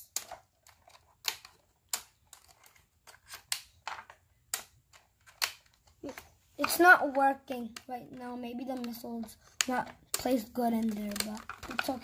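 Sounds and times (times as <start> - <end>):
sharp plastic clicks: 0.0 - 12.0.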